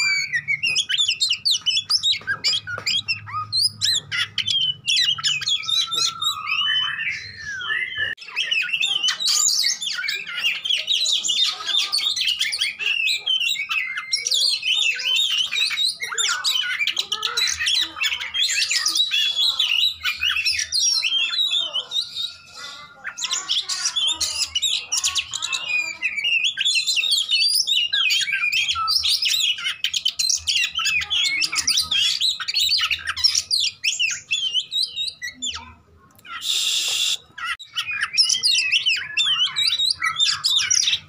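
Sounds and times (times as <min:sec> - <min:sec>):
songbird singing: 0:00.0 - 0:41.0.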